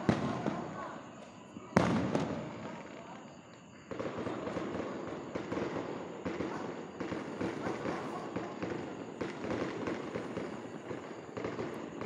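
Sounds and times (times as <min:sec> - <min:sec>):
firework bang echoing: 0:00.0 - 0:01.0, 0:01.7 - 0:03.1, 0:03.9 - 0:12.0
crackling firework pops: 0:00.0 - 0:12.0.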